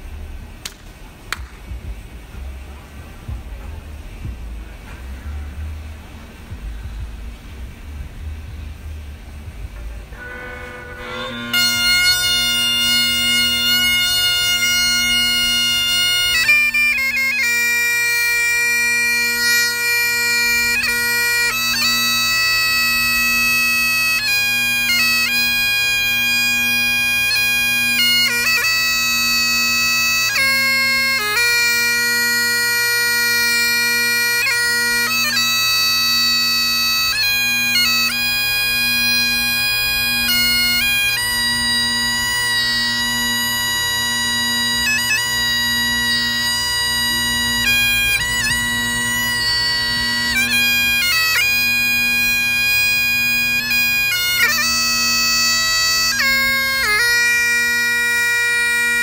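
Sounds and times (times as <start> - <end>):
bagpipe drones: 1.7 - 59.0
bagpipe chanter playing slow tune: 4.4 - 59.0.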